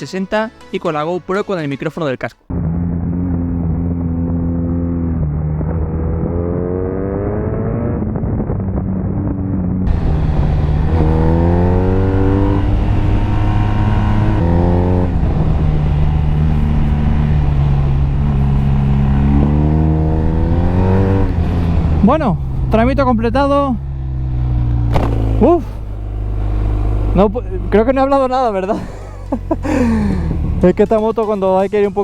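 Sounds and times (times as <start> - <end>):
motorcycle engine accelerating: 2.5 - 31.2.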